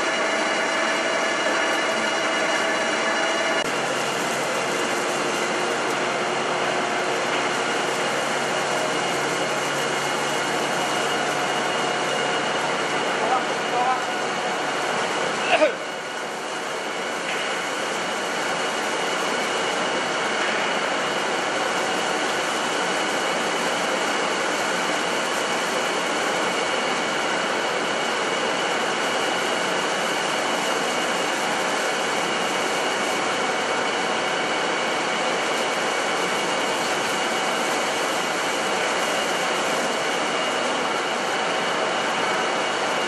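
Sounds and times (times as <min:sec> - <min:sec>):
machine whirring with high whine: 0:00.0 - 0:43.0.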